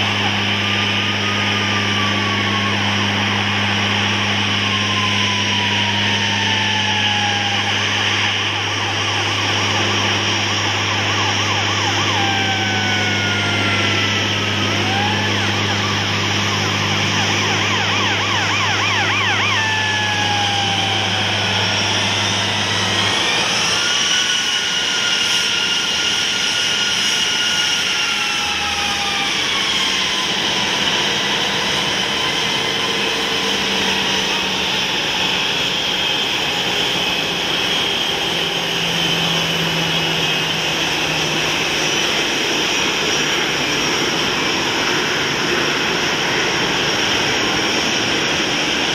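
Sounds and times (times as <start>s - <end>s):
jet engines whining: 0.0s - 48.9s
low steady drone: 0.0s - 48.9s.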